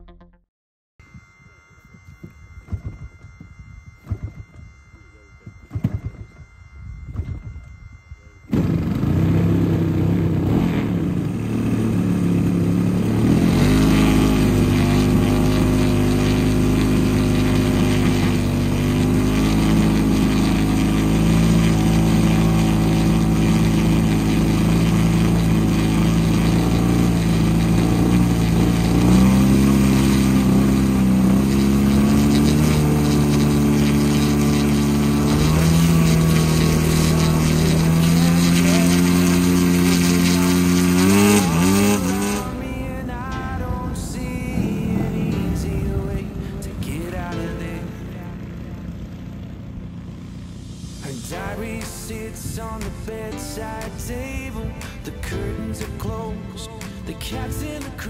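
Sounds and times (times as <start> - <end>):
model plane engine running: 1.0 - 52.2.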